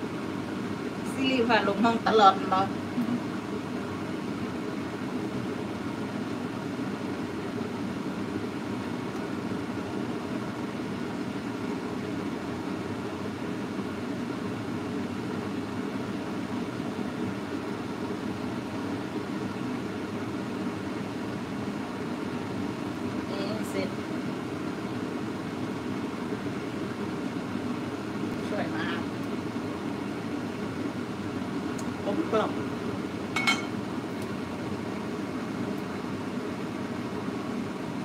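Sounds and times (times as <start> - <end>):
kitchen background hum and hiss: 0.0 - 38.0.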